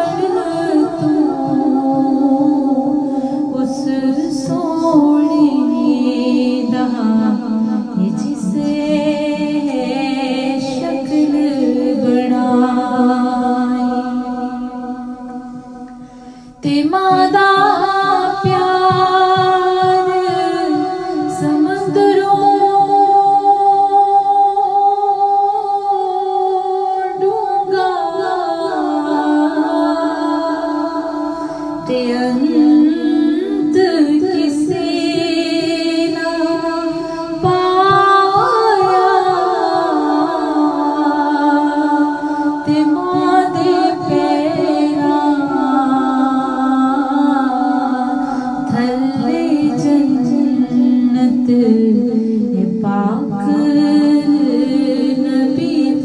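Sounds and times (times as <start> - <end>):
person singing devotional song: 0.0 - 56.0.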